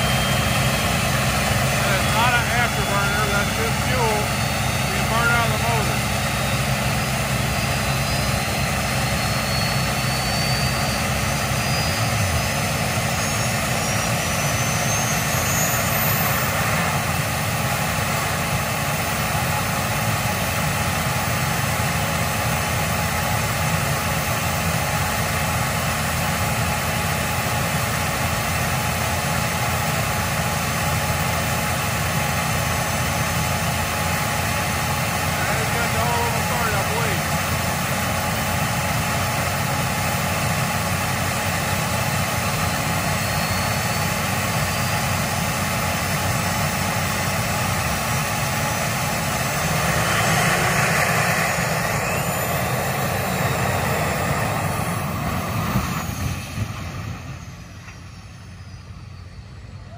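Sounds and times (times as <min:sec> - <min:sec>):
turbine engine whine: 0:00.0 - 0:59.9.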